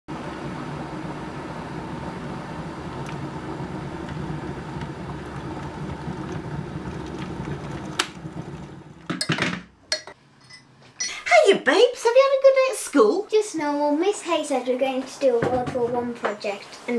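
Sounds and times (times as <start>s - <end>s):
steady mechanical hum: 0.1s - 16.9s.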